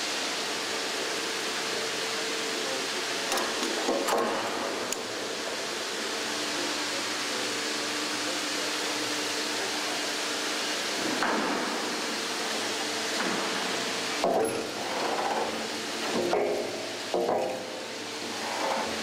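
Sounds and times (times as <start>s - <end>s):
faint machine hum: 0.0s - 19.0s
industrial hall noise: 0.0s - 19.0s.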